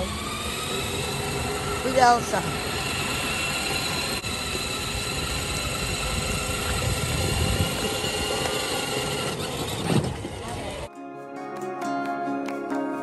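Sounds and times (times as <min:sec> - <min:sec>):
electric motors whining: 0:00.0 - 0:10.9
wheels rumbling: 0:00.0 - 0:10.9.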